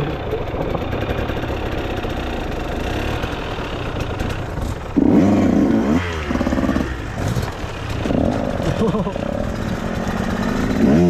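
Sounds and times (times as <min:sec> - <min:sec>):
dirt bike engines running: 0:00.0 - 0:11.0
dirt bike revving loudly: 0:00.0 - 0:11.0.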